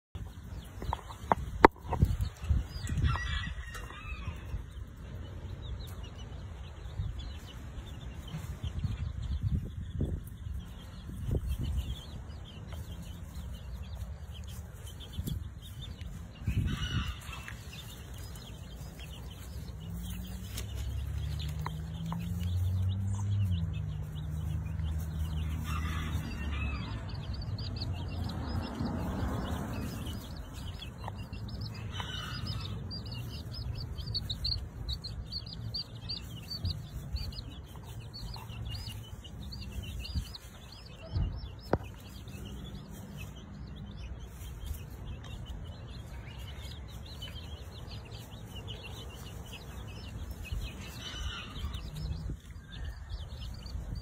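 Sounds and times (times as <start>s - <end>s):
baby chicks peeping: 0.1s - 54.0s.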